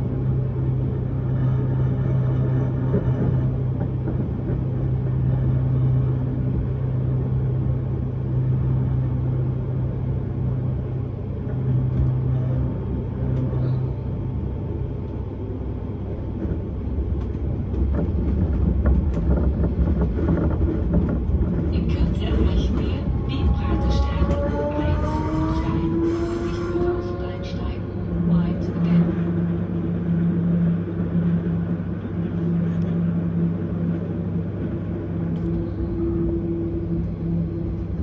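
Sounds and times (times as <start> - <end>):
low electric hum: 0.0 - 38.0
train wheels rumbling on track: 0.0 - 38.0.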